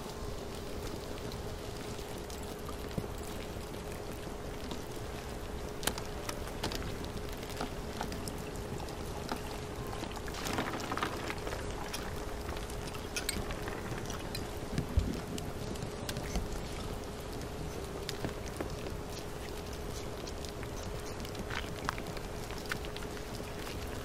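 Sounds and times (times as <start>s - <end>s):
faint steady hum: 0.0s - 24.0s
soft patter and hiss: 0.0s - 24.0s.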